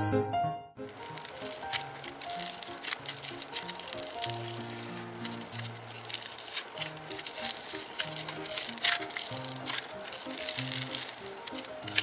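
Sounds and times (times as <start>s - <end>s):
gentle piano music: 0.0s - 12.0s
foam clay crackling and squishing: 0.8s - 12.0s.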